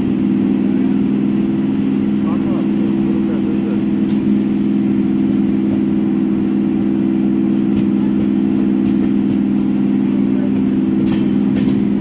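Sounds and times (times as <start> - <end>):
passenger trains humming: 0.0 - 12.0.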